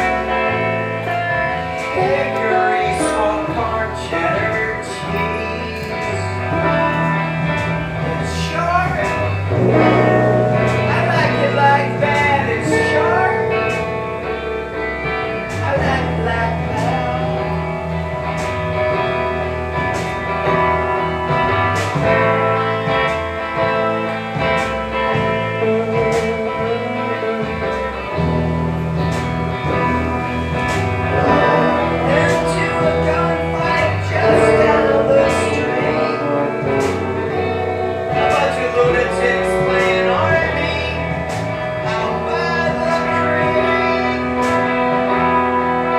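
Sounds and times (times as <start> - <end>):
guitar-led instrumental music: 0.0 - 45.9
moving bass line: 0.0 - 45.9.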